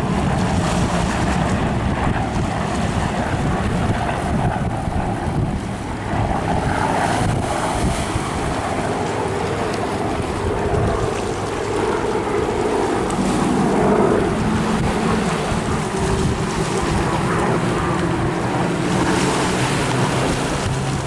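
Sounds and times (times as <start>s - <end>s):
propeller plane droning past: 0.0s - 21.0s
wind buffeting microphone: 0.0s - 21.0s.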